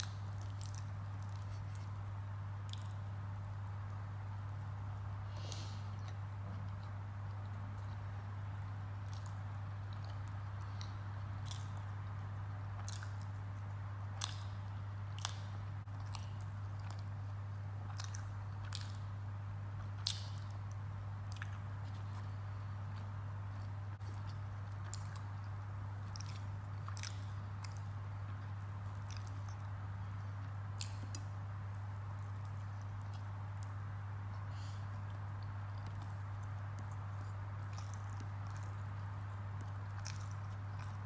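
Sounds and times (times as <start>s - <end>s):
person chewing: 0.0s - 3.2s, 5.3s - 41.0s
steady low hum: 0.0s - 41.0s.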